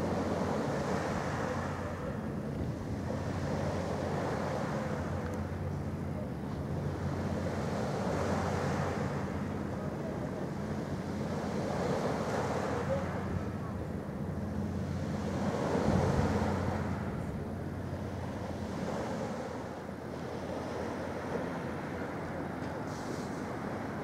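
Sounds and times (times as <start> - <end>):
low engine hum: 0.0 - 24.0
waves washing: 0.0 - 24.0.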